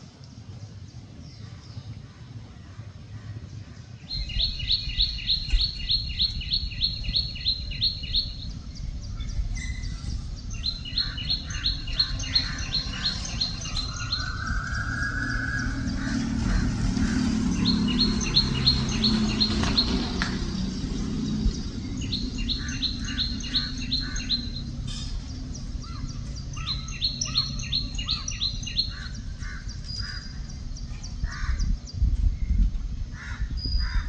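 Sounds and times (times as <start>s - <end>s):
songbird chirping: 0.0s - 34.0s
steady low rumble: 0.0s - 34.0s.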